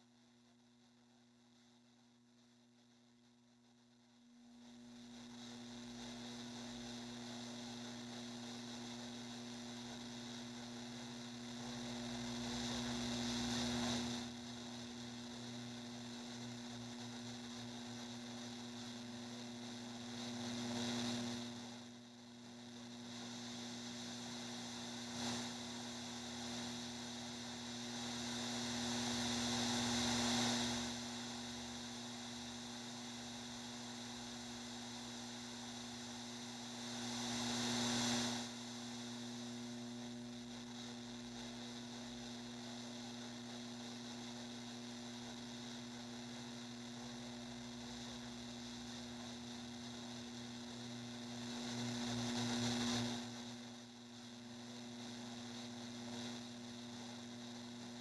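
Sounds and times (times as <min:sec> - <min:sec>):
constant hiss: 0:00.0 - 0:58.0
electrical hum: 0:00.0 - 0:58.0
wash of static noise: 0:00.0 - 0:58.0.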